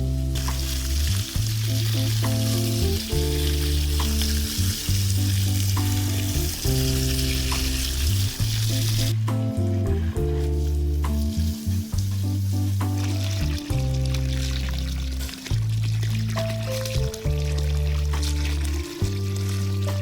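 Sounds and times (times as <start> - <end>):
background music with bass line: 0.0 - 20.0
food sizzling in hot oil: 0.0 - 20.0.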